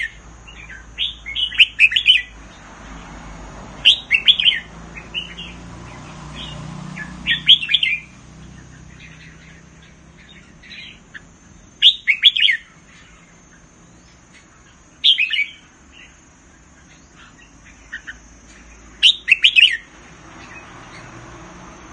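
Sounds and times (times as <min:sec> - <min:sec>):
bulbul singing: 0:00.0 - 0:21.9.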